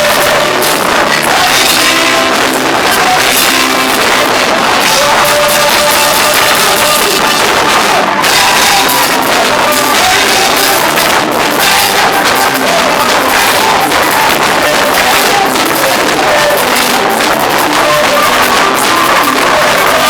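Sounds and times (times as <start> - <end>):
drum kit playing: 0.0 - 20.0
praise band music: 0.0 - 20.0.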